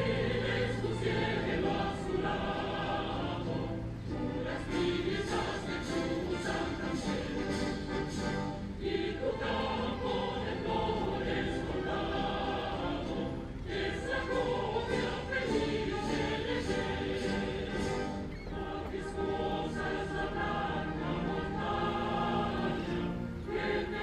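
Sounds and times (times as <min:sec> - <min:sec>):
choir singing held notes: 0:00.0 - 0:24.0.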